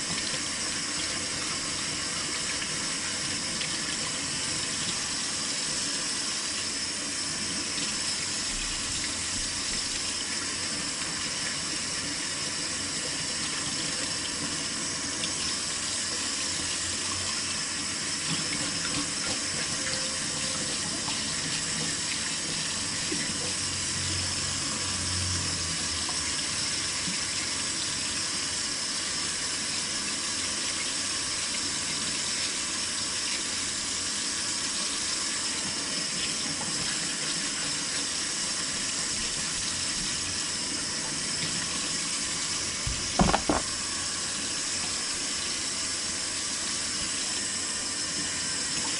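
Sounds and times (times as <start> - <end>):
tap water running into sink: 0.0 - 24.1, 25.7 - 48.9.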